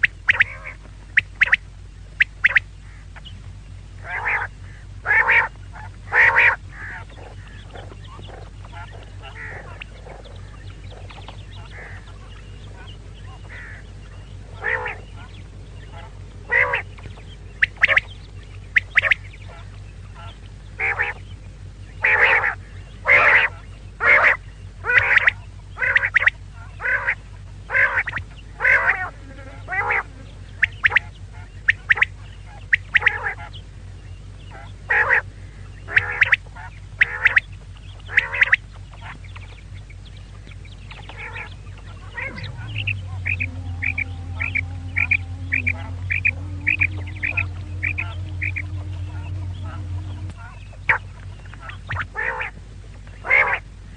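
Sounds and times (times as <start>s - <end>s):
quail calling: 0.0s - 53.9s
steady low hum: 0.0s - 53.9s.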